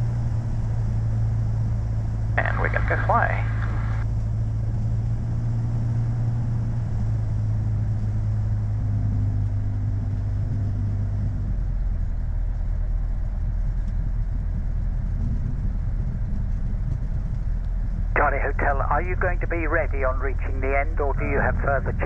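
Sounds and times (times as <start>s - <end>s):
propeller plane engine from cabin: 0.0s - 22.0s.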